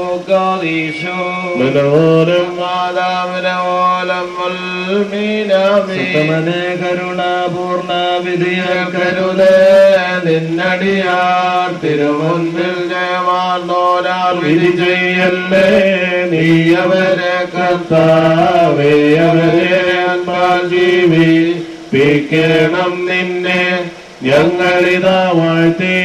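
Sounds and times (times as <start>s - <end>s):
man chanting a hymn: 0.0s - 26.0s.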